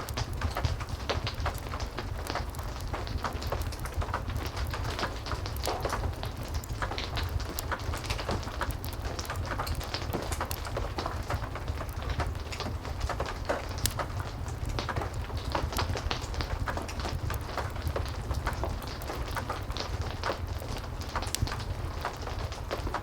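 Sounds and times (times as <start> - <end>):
heavy rain: 0.0 - 23.0
wood fire crackling: 0.0 - 23.0.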